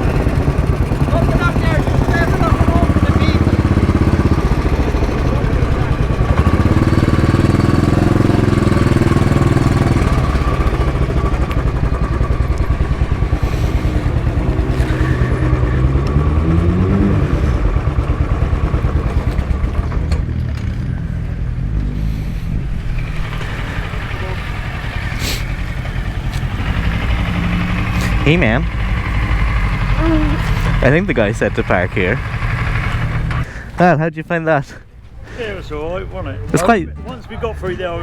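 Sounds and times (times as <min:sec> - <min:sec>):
motorcycle engine running: 0:00.0 - 0:33.5.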